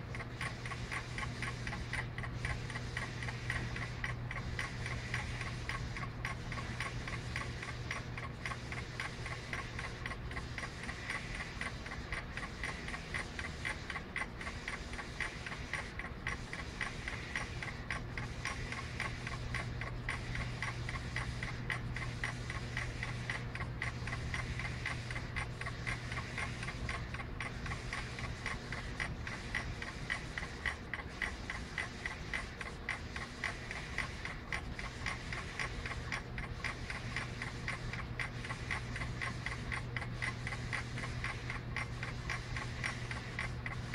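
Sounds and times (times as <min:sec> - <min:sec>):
rapid electronic ticking: 0:00.0 - 0:43.9.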